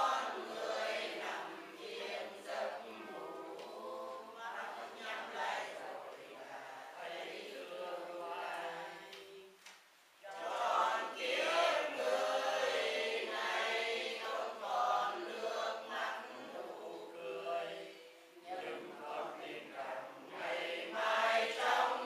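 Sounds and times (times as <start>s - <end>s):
voices chanting in unison: 0.0s - 9.6s, 10.2s - 22.0s.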